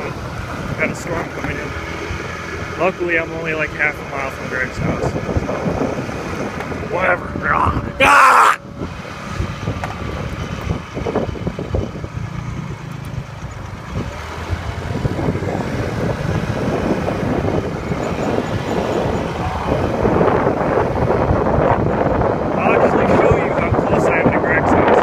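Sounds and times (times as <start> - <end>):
passing traffic: 0.0 - 25.0
wind buffeting microphone: 0.0 - 25.0.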